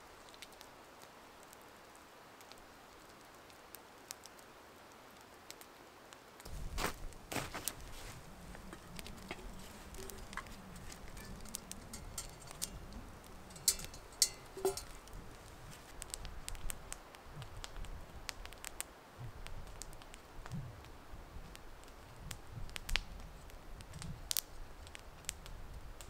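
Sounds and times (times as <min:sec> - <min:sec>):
light clicks and crackles: 0:00.0 - 0:26.0.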